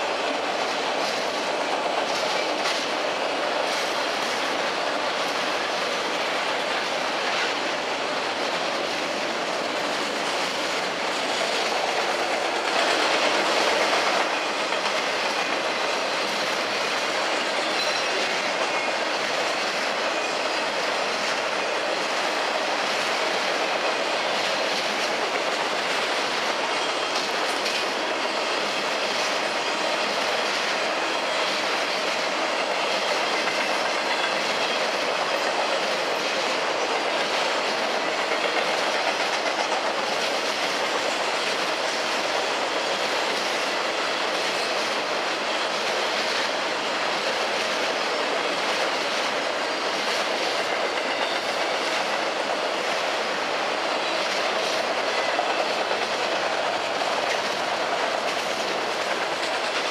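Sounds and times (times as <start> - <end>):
freight train rolling past: 0.0 - 59.9
wheels clicking over rail joints: 0.0 - 59.9.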